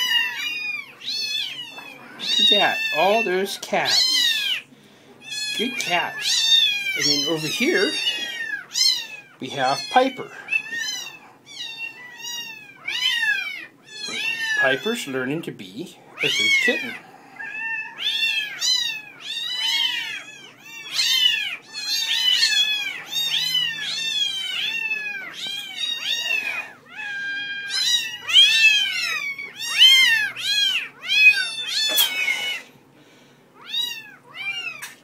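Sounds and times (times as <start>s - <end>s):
kittens mewing: 0.0s - 15.4s, 16.0s - 32.9s, 33.6s - 35.0s.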